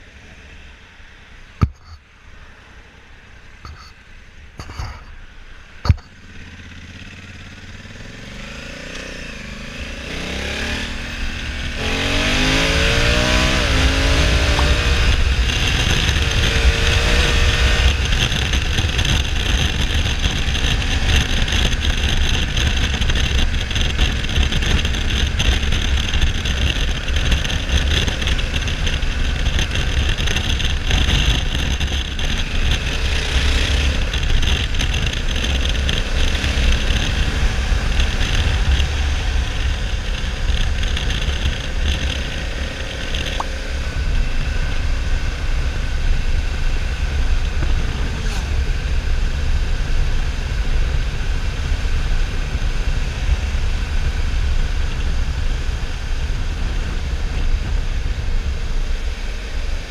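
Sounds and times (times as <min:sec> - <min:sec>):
motorcycle engine accelerating: 0:05.8 - 0:59.9
wind rush on microphone: 0:09.3 - 0:59.9.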